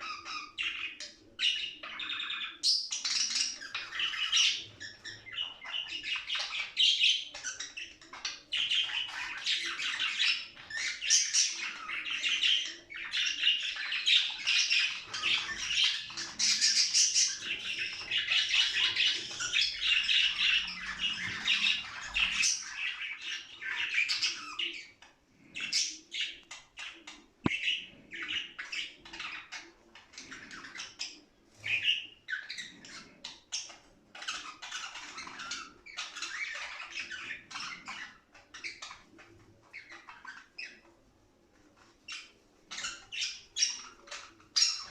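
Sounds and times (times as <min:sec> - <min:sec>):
budgerigars warbling and chattering: 0:00.0 - 0:41.0, 0:41.8 - 0:44.9.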